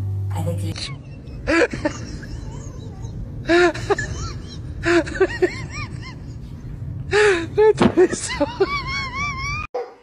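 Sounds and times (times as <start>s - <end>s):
steady low rumble: 0.0s - 9.7s.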